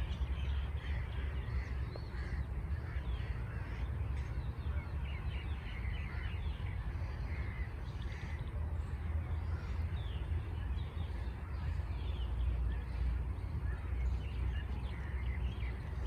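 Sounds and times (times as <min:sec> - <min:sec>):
birds calling and chirping: 0:00.0 - 0:16.0.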